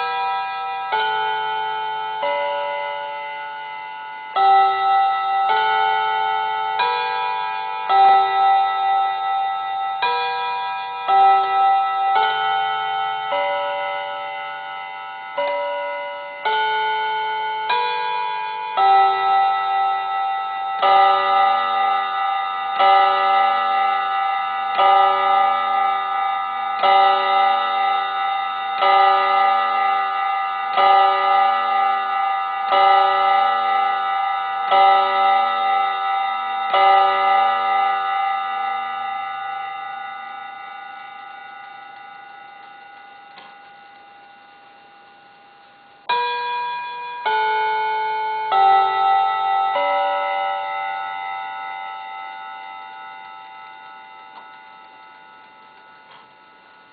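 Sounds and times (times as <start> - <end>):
clock chime melody: 0.0 - 56.9
clock striking hour: 0.0 - 56.9.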